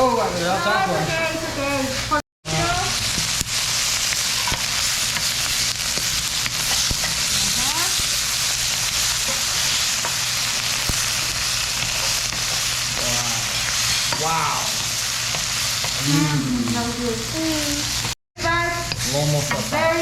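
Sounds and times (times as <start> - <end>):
food sizzling in a hot pan: 0.0 - 20.0.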